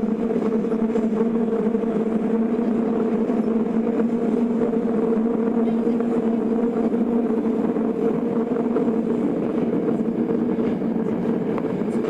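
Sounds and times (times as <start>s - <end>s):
inverter drone: 0.0s - 12.0s
subway car wheels rumbling: 0.0s - 12.0s.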